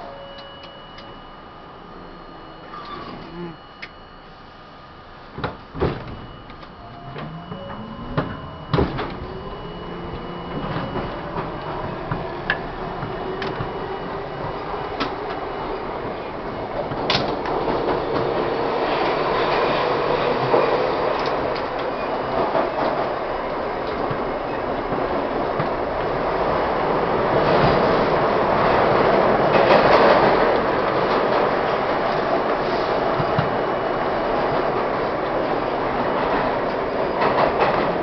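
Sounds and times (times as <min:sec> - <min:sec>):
subway car whine: 0:00.0 - 0:38.0
steel wheels rumbling on rail: 0:05.8 - 0:38.0.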